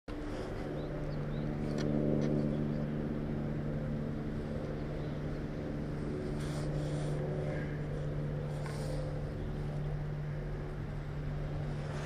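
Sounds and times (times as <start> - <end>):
low engine hum: 0.1 - 12.0.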